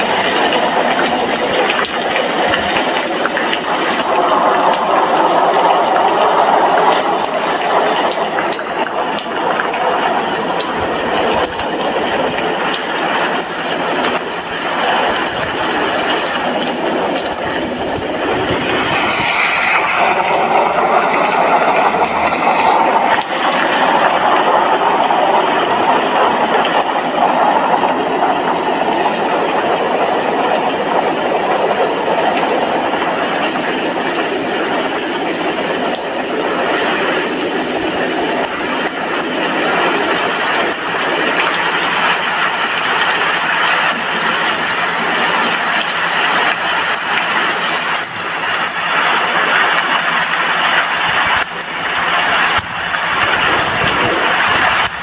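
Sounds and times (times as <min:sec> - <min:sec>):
steady rain through window: 0:00.0 - 0:55.0.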